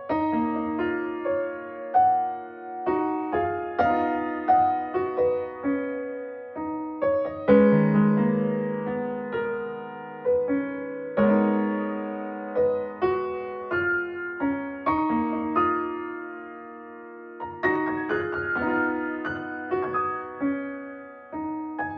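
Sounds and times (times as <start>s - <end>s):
gentle piano piece: 0.0s - 21.9s.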